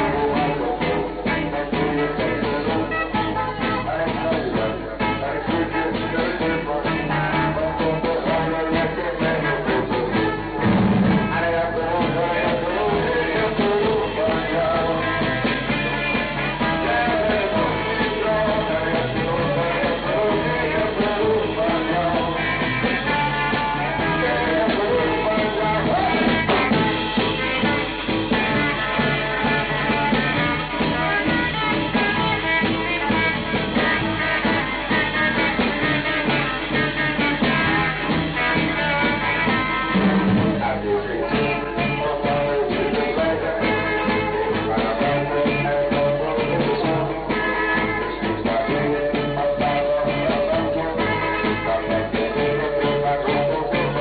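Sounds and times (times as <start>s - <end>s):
bass guitar: 0.0s - 54.0s
drums: 0.0s - 54.0s
electric guitars: 0.0s - 54.0s
person singing: 0.0s - 54.0s.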